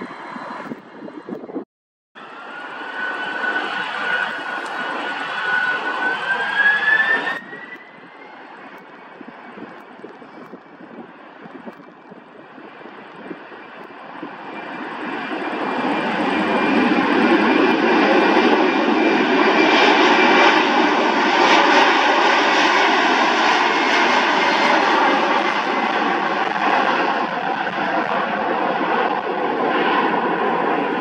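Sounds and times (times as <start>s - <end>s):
jet engines whining: 0.0s - 1.6s, 2.2s - 31.0s.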